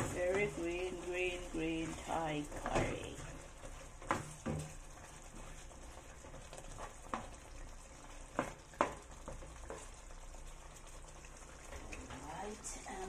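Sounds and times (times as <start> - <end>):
curry sizzling in a pan: 0.0 - 13.0.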